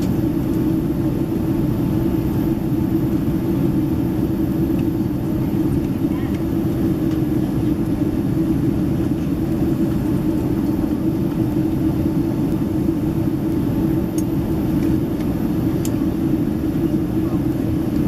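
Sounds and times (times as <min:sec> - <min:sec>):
airliner cabin roar: 0:00.0 - 0:18.0.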